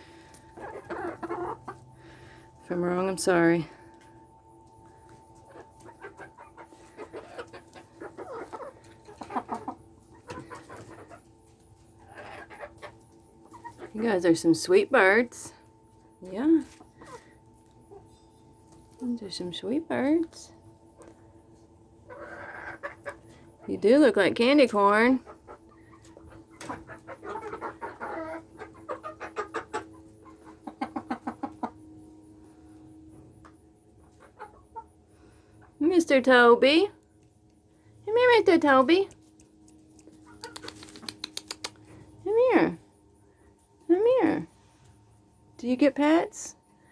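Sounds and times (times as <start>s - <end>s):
chickens clucking: 0.0s - 36.6s, 38.4s - 42.2s
faint steady hum: 0.0s - 46.9s.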